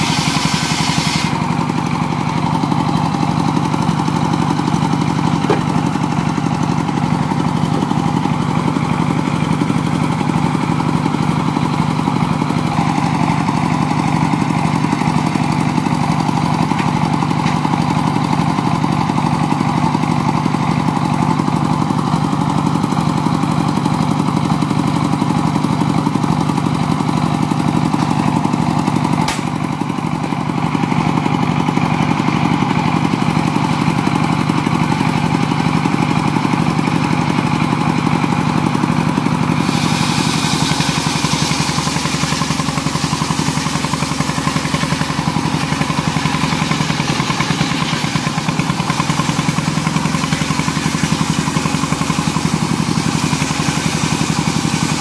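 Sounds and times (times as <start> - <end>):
circular saw cutting logs: 0.0 - 55.0
diesel engine running under load: 0.0 - 55.0.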